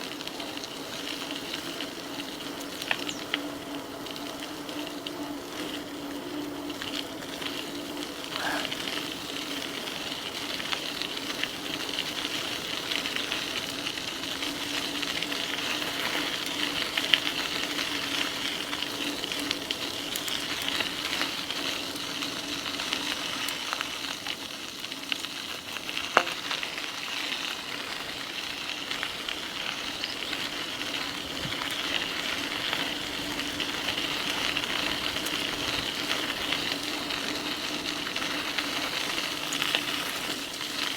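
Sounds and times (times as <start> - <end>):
bike clicking over bumps: 0.0 - 40.9
bike tyres hissing on path: 0.0 - 40.9.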